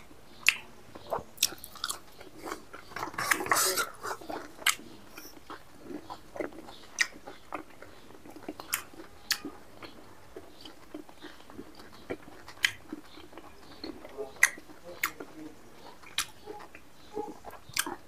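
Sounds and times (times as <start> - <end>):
chewing and mouth smacks: 0.0 - 18.0.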